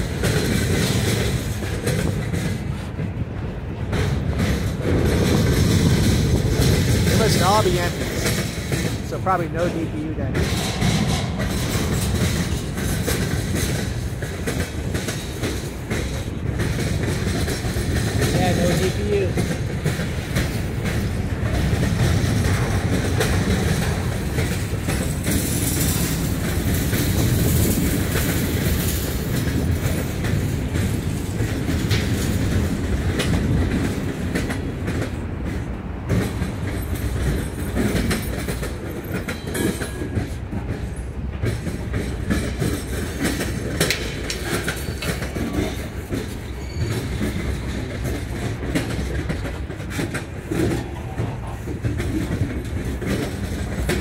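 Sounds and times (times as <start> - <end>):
clickety-clack of wheels on track: 0.0 - 54.0
train wheels rumbling on rail: 0.0 - 54.0.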